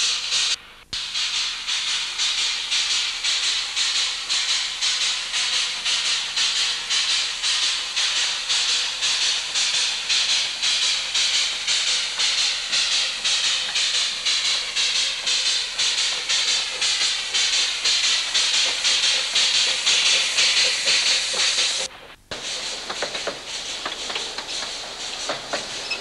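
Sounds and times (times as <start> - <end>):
steam hissing: 0.0 - 26.0
steam locomotive exhaust chuffs: 0.0 - 26.0.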